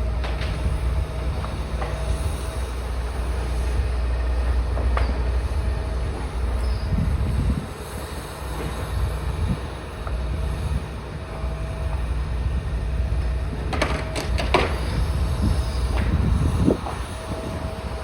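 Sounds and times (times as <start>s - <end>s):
excavator engine rumbling: 0.0s - 18.0s.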